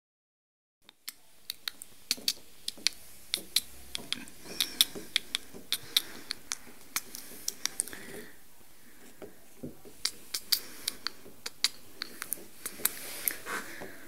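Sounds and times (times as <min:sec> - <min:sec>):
toy hooves tapping on wooden floor: 0:01.1 - 0:08.3, 0:09.0 - 0:14.0.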